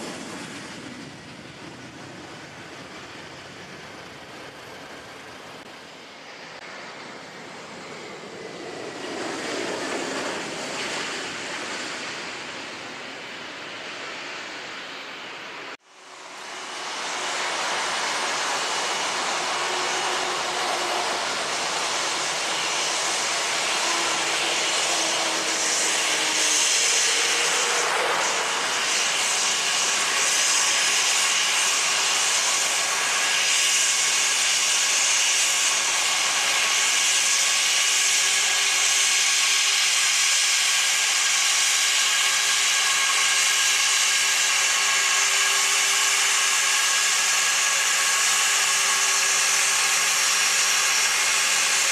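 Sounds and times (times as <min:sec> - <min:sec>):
jet engines taxiing: 0:00.0 - 0:51.9.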